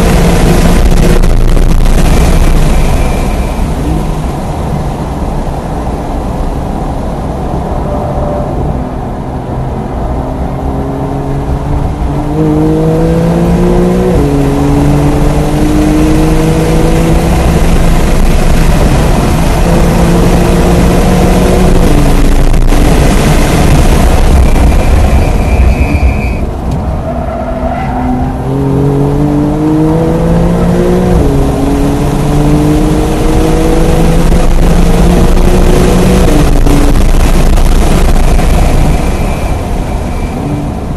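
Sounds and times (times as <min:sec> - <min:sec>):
car engine accelerating: 0:00.0 - 0:25.9, 0:26.5 - 0:40.9
road noise: 0:00.0 - 0:40.9
wind noise: 0:00.0 - 0:40.9.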